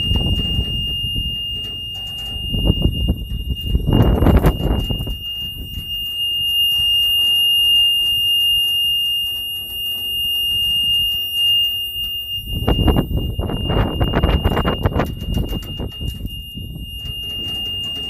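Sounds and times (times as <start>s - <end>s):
high-pitched alarm tone: 0.0s - 18.0s.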